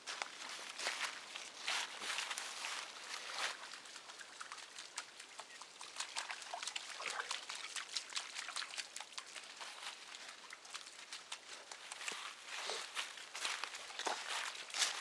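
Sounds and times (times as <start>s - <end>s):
dog splashing through water: 0.8s - 15.0s.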